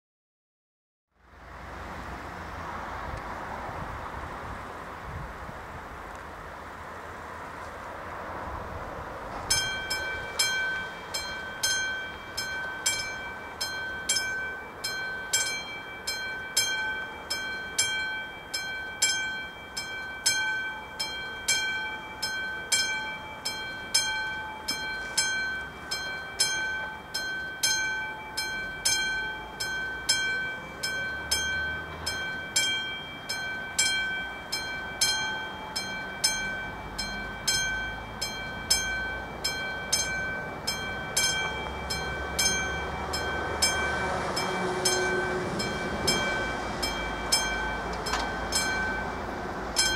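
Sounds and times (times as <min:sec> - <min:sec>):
level crossing warning bell: 0:09.4 - 0:49.9.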